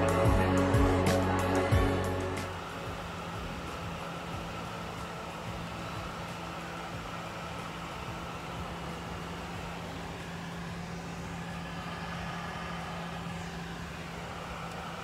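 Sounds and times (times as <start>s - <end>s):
jet airliner cabin drone: 0.0s - 15.0s.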